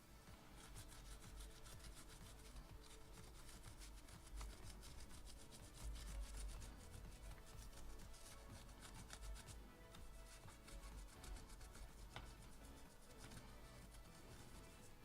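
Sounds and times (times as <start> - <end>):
tool scratching circuit board: 0.6 - 15.0.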